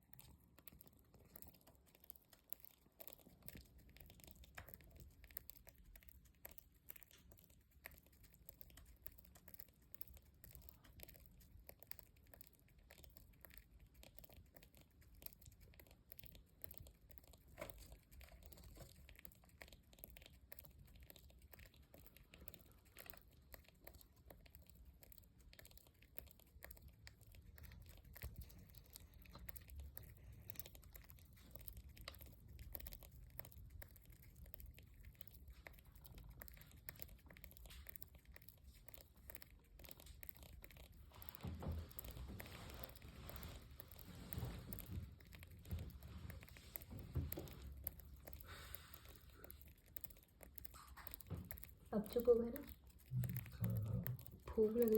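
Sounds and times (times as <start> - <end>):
faint crackling and rustling: 0.0 - 54.9.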